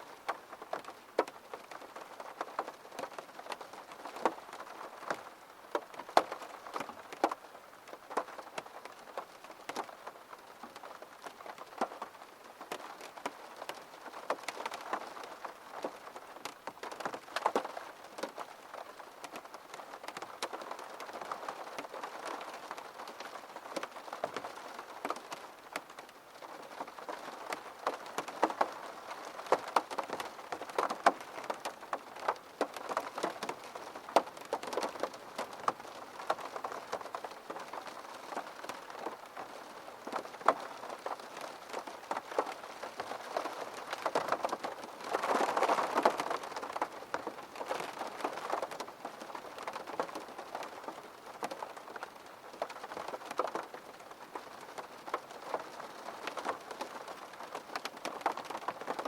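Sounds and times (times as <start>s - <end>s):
rain on a window pane: 0.0s - 59.0s
raindrops ticking on glass: 0.1s - 59.0s.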